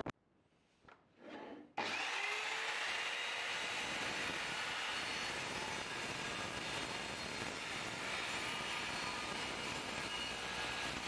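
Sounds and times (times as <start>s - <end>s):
sliding mitre saw whining: 1.8s - 11.0s.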